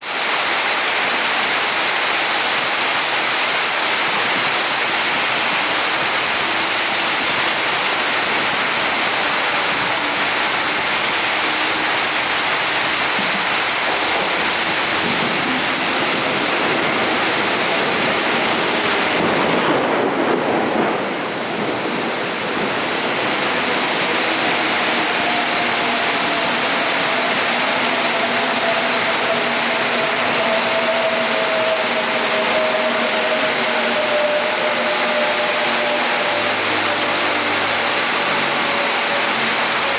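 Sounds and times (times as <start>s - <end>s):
electric train running: 4.2s - 39.9s.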